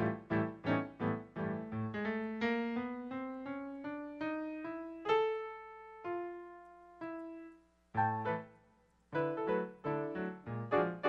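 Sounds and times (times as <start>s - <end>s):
piano notes: 0.0s - 11.0s.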